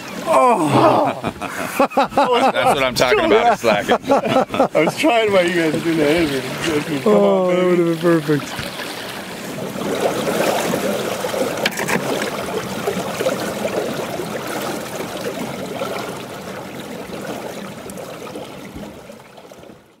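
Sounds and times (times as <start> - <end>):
river water splashing against boat: 0.0 - 20.0.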